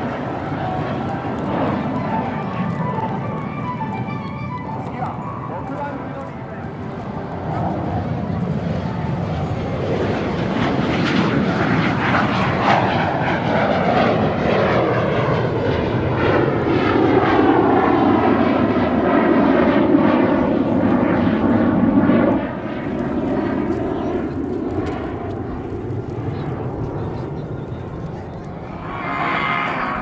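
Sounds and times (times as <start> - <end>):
jet aircraft flying past: 0.0 - 30.0.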